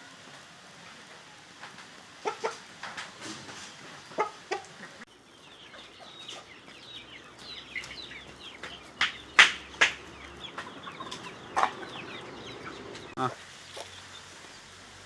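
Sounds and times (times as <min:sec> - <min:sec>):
chickens clucking: 0:00.2 - 0:14.7.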